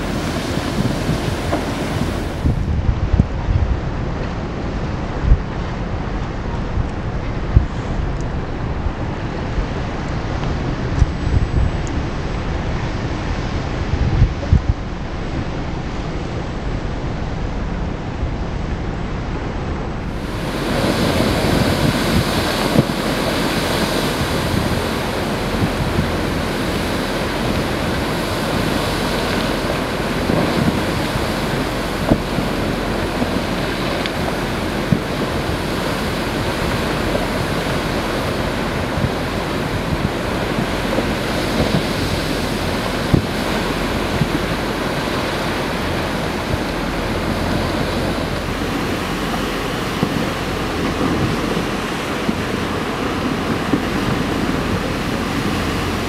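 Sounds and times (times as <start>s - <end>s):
sea surf rushing: 0.0s - 56.0s
wind on microphone: 0.0s - 56.0s.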